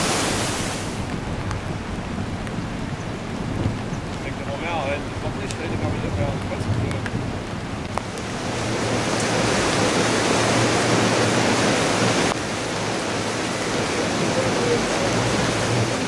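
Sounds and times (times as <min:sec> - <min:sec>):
fast-flowing floodwater rushing: 0:00.0 - 0:16.0.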